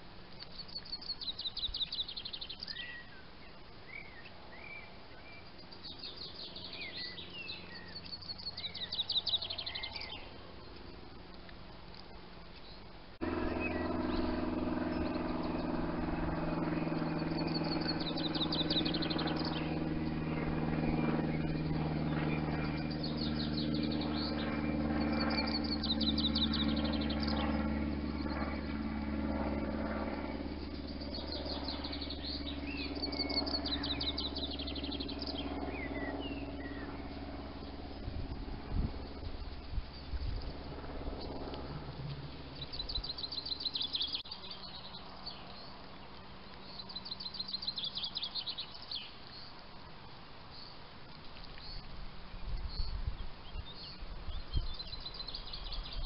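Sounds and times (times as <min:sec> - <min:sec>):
low mechanical hum: 0:00.0 - 0:56.0
small bird singing trills: 0:00.4 - 0:11.0, 0:12.6 - 0:49.6, 0:51.4 - 0:56.0.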